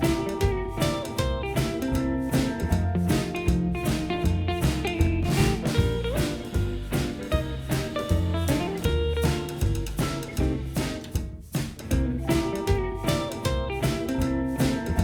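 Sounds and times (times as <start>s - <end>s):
drum kit steady beat: 0.0s - 15.0s
plucked guitar: 0.0s - 15.0s.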